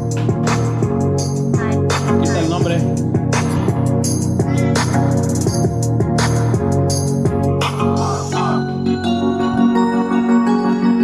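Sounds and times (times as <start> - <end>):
pop music from a small speaker: 0.0 - 11.0.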